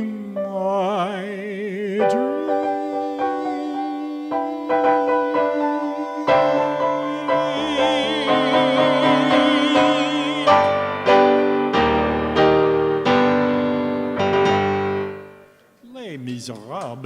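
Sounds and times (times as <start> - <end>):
piano ballad chords: 0.0 - 15.6.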